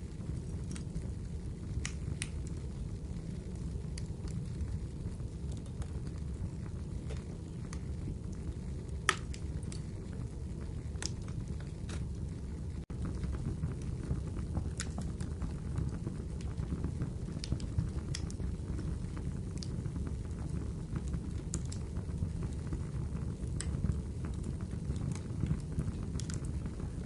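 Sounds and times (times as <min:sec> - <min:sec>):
burning wood crackling: 0:00.0 - 0:27.0
fire flames rumbling: 0:00.0 - 0:27.0.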